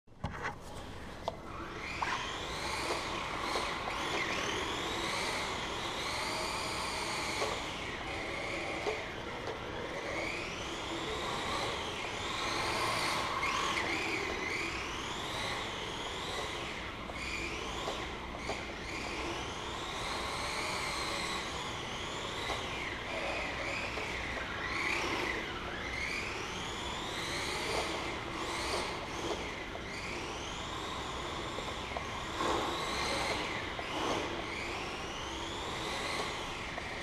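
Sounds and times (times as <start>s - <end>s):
electric motor whining: 1.5s - 37.0s.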